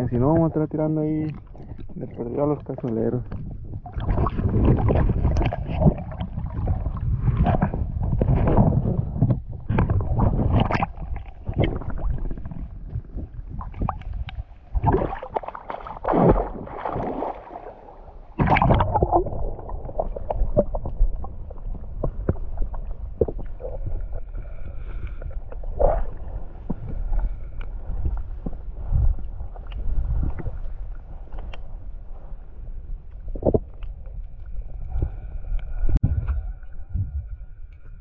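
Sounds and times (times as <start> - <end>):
water splashes: 0.0 - 31.6
muffled underwater rumble: 0.0 - 38.0
water sloshing and gurgling: 0.0 - 38.0.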